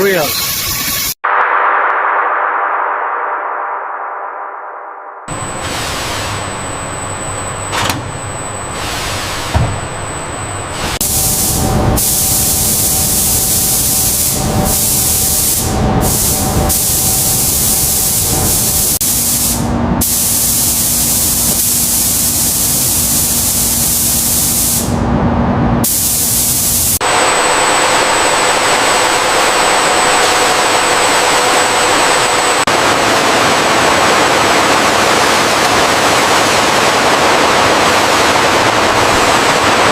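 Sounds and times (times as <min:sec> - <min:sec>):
faint high whine: 0:00.0 - 0:25.2, 0:26.6 - 0:39.9
machine sounds: 0:00.0 - 0:39.9
hissing factory noise: 0:05.3 - 0:39.9.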